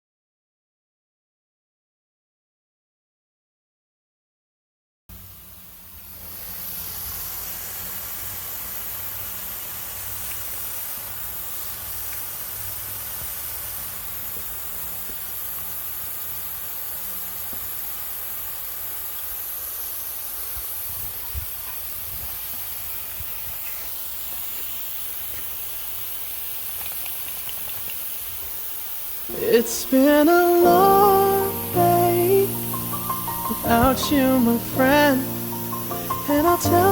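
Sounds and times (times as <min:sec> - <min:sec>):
spraying water hiss: 0:05.1 - 0:36.9.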